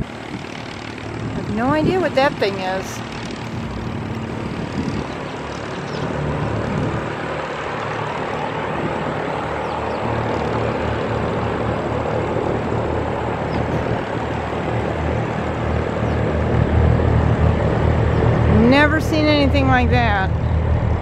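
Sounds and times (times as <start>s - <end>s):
propeller aircraft engine running: 0.0s - 21.0s.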